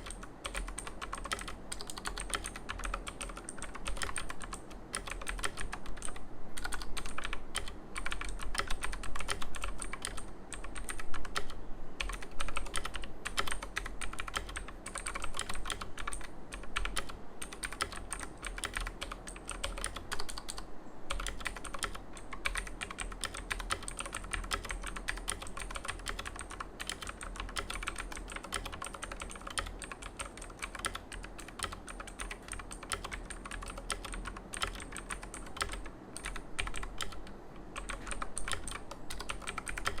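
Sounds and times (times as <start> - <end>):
fast mechanical keyboard typing: 0.0 - 40.0.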